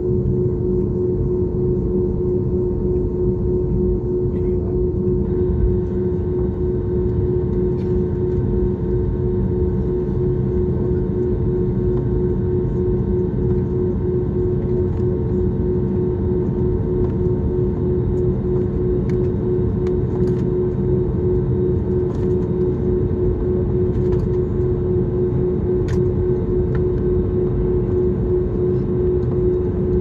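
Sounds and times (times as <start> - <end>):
constant humming tone: 0.0 - 30.0
jet engine cabin drone: 0.0 - 30.0.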